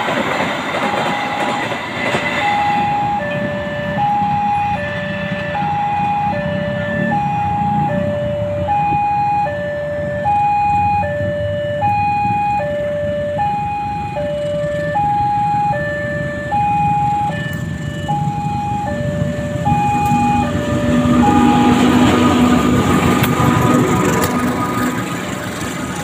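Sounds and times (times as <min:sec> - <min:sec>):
diesel train passing: 0:00.0 - 0:26.0
level crossing two-tone alarm: 0:00.8 - 0:23.7.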